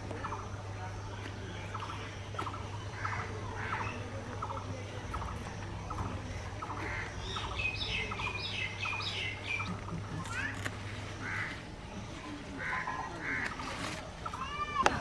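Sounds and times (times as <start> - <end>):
birds chirping: 0.0 - 14.8
steady low hum: 0.0 - 15.0.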